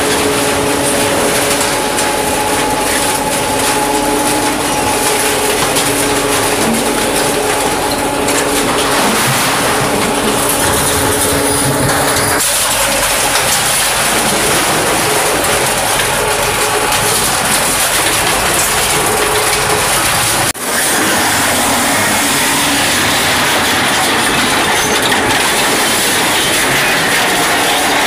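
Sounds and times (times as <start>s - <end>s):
machine hum: 0.0s - 28.0s
metal scrap clattering: 0.0s - 28.0s.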